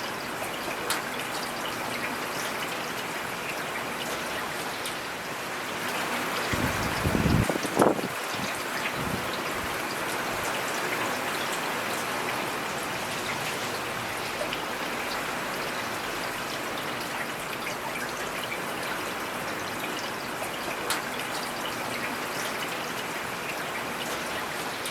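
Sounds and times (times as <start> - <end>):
steady rain falling: 0.0 - 24.9.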